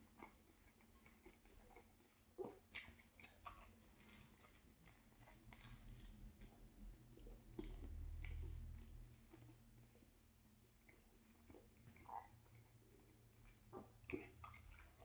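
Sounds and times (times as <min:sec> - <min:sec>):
chewing sandwich: 0:00.0 - 0:15.0.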